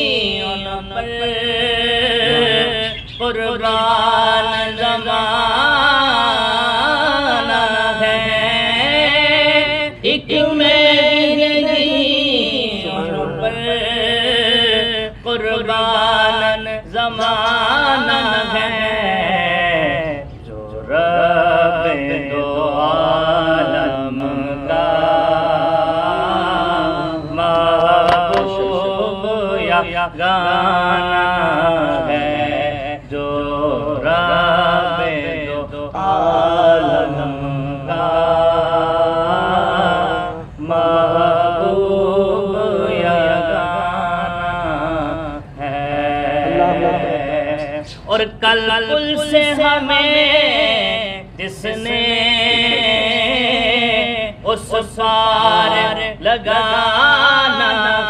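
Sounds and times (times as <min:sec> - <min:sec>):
man singing: 0:00.0 - 0:58.0.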